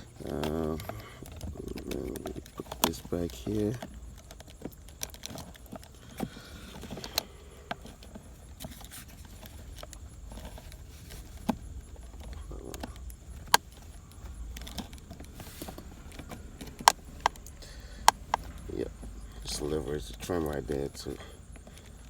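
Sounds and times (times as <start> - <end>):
plastic trim clicking and knocking: 0.0 - 22.0.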